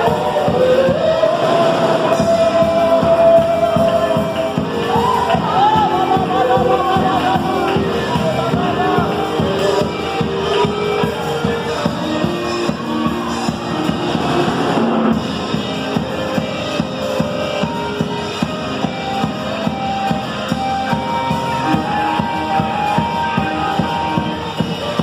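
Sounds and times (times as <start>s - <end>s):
drum kit beat: 0.0s - 25.0s
guitar: 0.0s - 25.0s.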